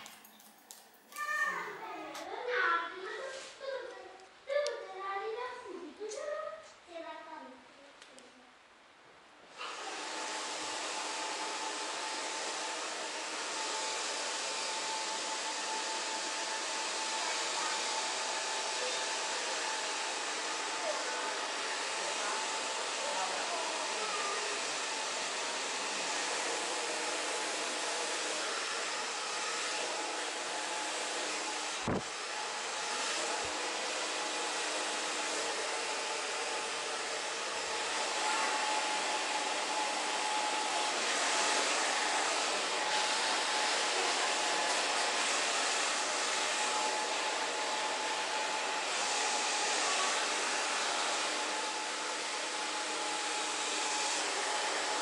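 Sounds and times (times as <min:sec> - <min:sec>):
hair dryer running: 0:00.0 - 0:02.4, 0:09.5 - 0:55.0.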